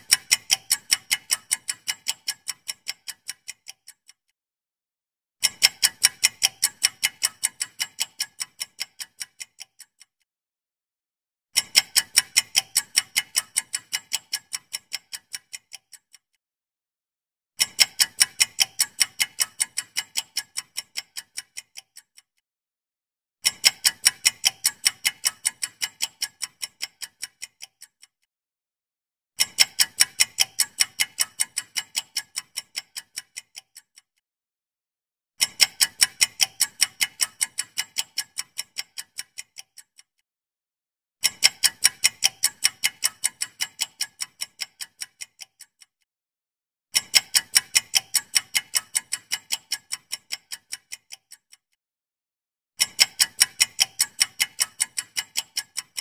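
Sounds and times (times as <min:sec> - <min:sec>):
rapid clock-like ticks: 0:00.0 - 0:04.4, 0:05.4 - 0:10.3, 0:11.6 - 0:16.4, 0:17.6 - 0:22.4, 0:23.4 - 0:28.3, 0:29.4 - 0:34.2, 0:35.4 - 0:40.2, 0:41.2 - 0:46.1, 0:47.0 - 0:51.8, 0:52.8 - 0:56.0.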